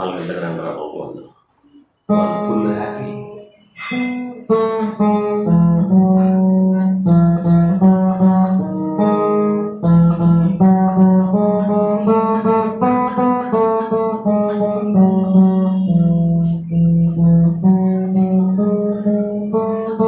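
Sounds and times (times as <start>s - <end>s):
acoustic guitar melody: 0.0s - 20.0s.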